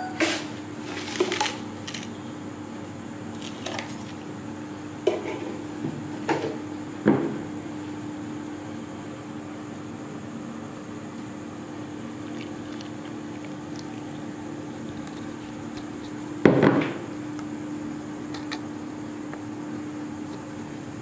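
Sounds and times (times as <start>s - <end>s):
steady low hum: 1.6s - 21.0s.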